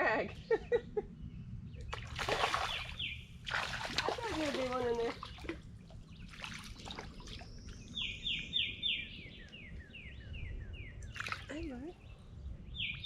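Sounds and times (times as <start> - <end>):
songbird singing down-slurred notes: 0.2 - 3.5, 4.3 - 13.0.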